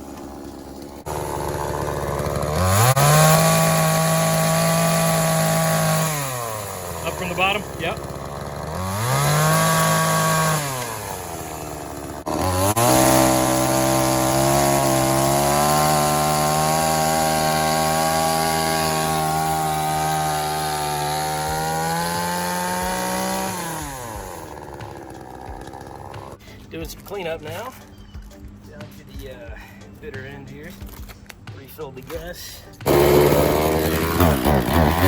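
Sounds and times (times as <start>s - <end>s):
chainsaw cutting through log: 0.0s - 26.4s, 32.8s - 35.0s.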